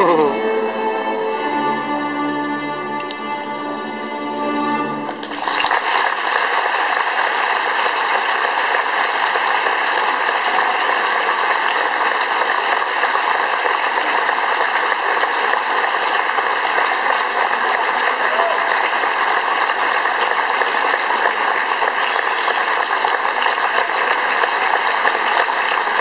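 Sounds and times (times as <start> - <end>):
audience applauding: 5.0 - 26.0.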